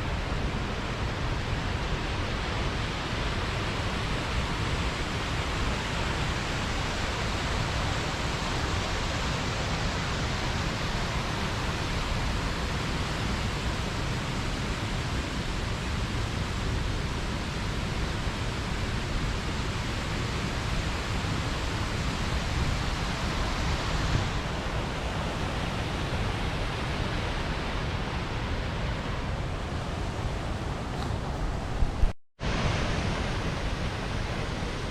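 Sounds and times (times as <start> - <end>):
water rushing over a weir: 0.0 - 34.9.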